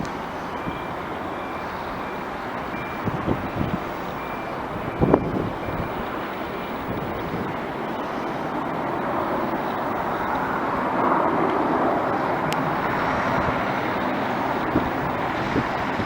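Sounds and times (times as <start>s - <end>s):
airliner engine rushing: 0.0s - 16.0s.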